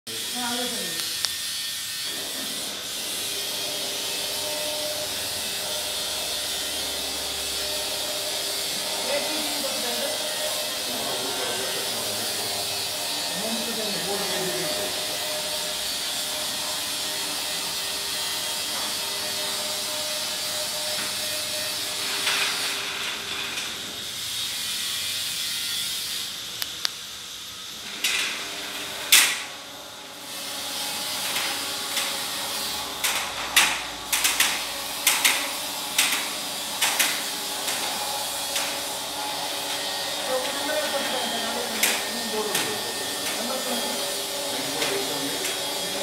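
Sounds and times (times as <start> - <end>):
rolling shutter motor hum: 0.1 - 46.0.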